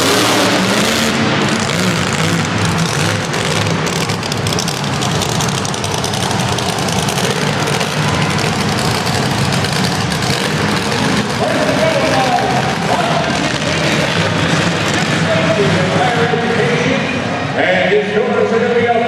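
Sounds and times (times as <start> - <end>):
loud truck engines revving: 0.0 - 19.0.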